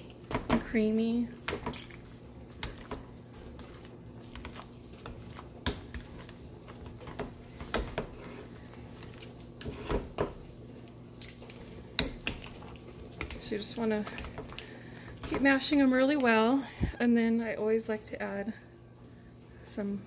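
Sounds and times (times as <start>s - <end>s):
masher mashing potatoes: 0.0s - 16.5s.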